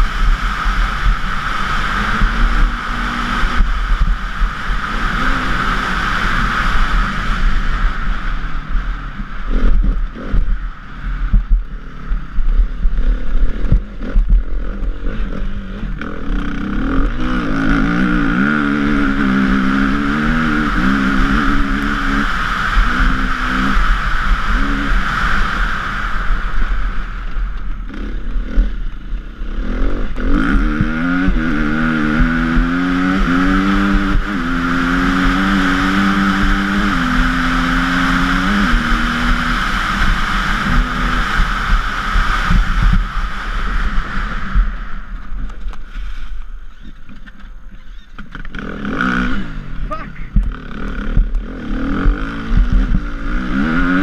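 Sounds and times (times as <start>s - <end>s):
dirt bike engine at full throttle: 0.0s - 54.0s.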